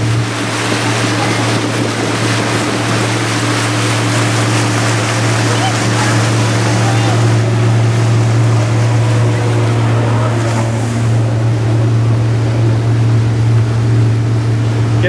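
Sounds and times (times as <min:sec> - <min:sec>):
motorboat engine running: 0:00.0 - 0:15.0
water rushing from hull: 0:00.0 - 0:15.0.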